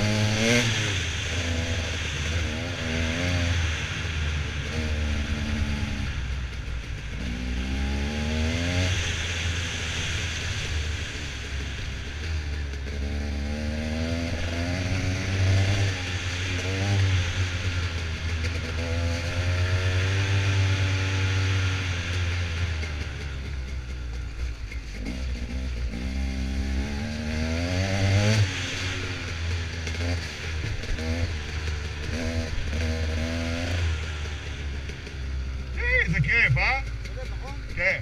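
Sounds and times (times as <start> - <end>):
atv engine revving: 0.0 - 38.0.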